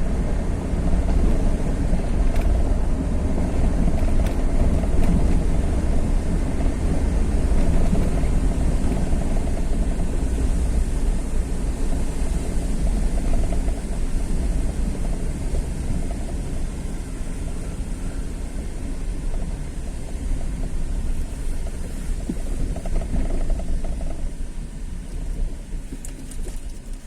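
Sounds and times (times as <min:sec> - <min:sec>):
road noise: 0:00.0 - 0:27.0
vehicle engine rumble: 0:00.0 - 0:27.0.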